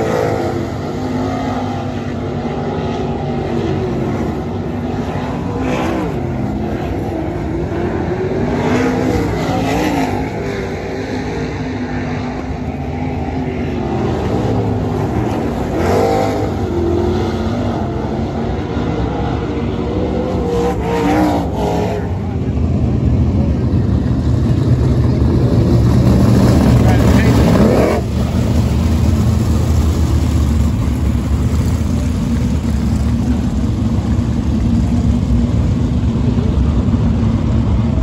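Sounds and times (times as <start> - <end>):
race car engines: 0.0 - 38.0.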